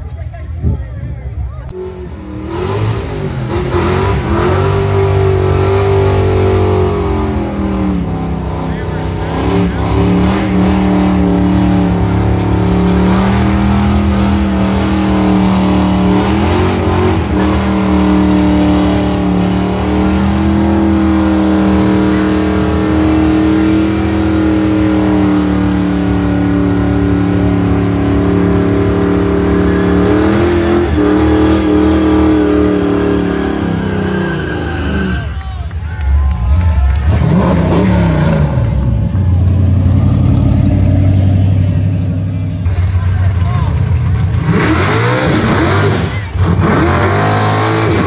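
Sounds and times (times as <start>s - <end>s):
car engine revving high: 1.7s - 35.4s, 36.5s - 48.0s.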